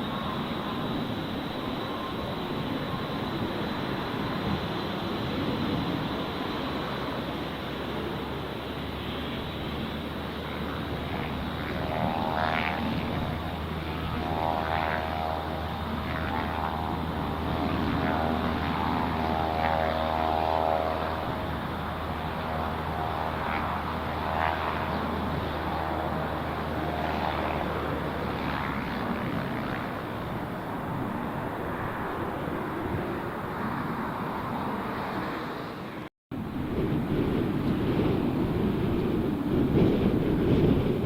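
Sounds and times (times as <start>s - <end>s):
propeller aircraft engine droning: 0.0s - 41.0s.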